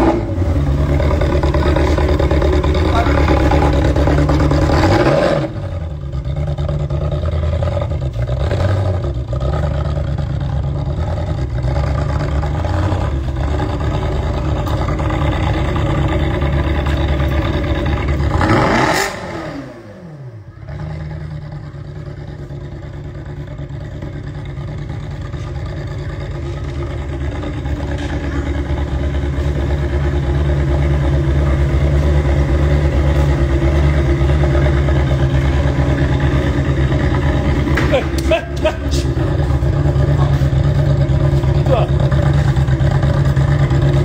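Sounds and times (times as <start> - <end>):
engine revving: 0.0 - 22.0, 26.0 - 44.0
sports car engine idling: 0.0 - 44.0.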